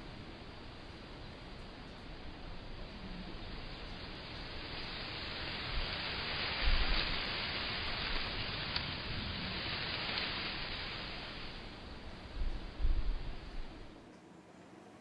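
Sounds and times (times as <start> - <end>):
street ambience hiss: 0.0 - 15.0.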